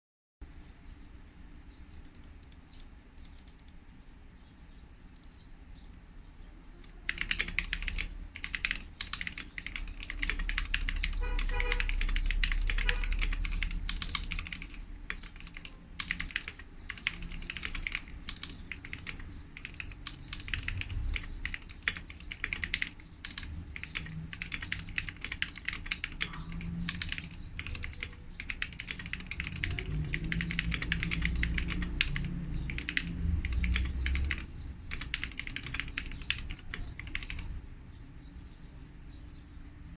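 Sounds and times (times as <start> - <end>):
mechanical keyboard typing: 1.9 - 3.8, 6.8 - 37.6.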